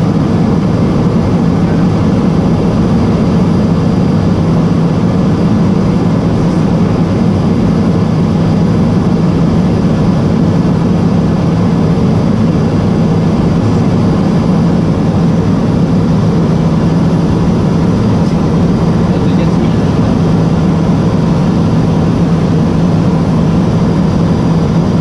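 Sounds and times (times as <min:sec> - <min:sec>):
propeller engine drone in cockpit: 0:00.0 - 0:25.0.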